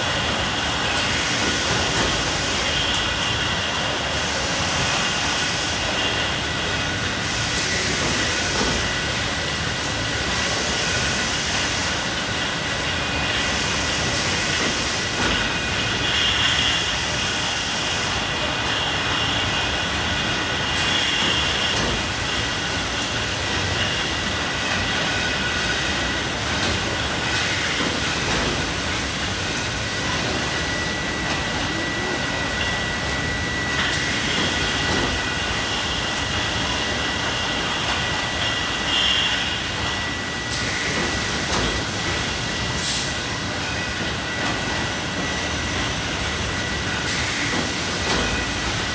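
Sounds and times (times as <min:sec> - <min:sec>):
machinery running noise: 0:00.0 - 0:48.9.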